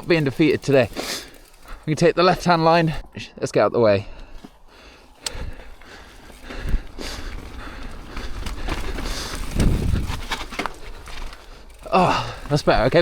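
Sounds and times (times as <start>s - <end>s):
mountain bike rattling over rocks: 0.0s - 3.2s, 4.1s - 13.0s.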